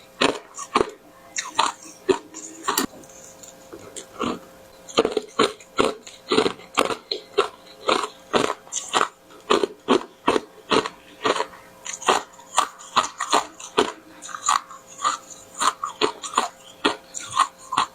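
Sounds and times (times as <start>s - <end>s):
chewing crunchy granules: 0.0s - 17.9s.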